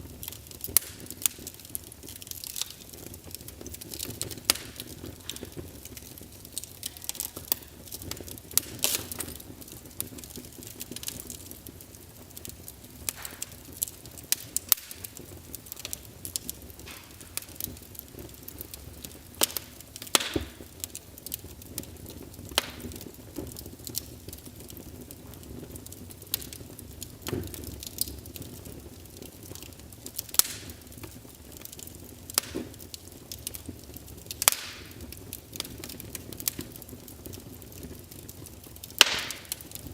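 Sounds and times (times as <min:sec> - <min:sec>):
fire crackles and pops: 0:00.0 - 0:39.9
steady rush of flames: 0:00.0 - 0:39.9.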